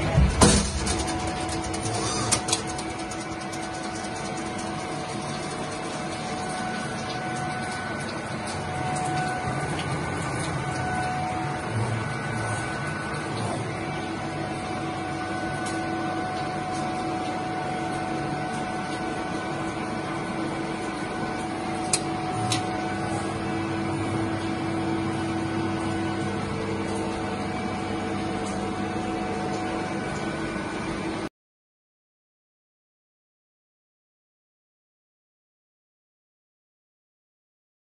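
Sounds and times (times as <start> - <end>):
milling machine motor hum: 0.0 - 31.3.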